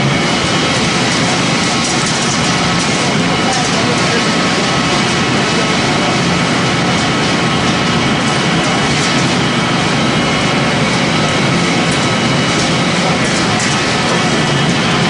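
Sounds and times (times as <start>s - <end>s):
pellet machine running: 0.0s - 15.0s.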